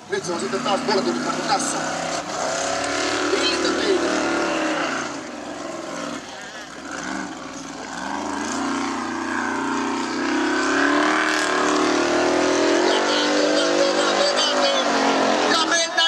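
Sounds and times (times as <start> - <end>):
buggy engine revving hard: 0.0 - 16.0.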